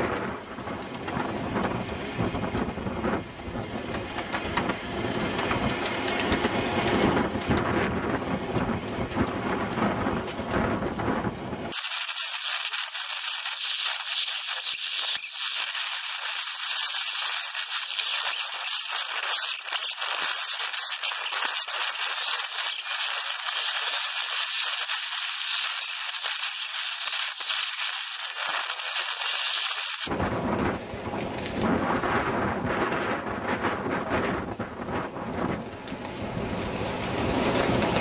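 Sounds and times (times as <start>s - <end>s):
miniature train rattling on track: 0.0s - 31.6s, 32.2s - 38.0s.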